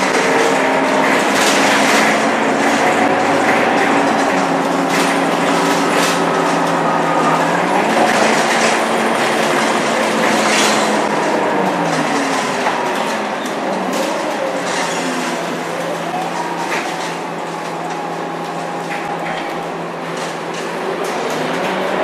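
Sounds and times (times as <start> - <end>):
bus engine droning with whine: 0.0 - 22.0.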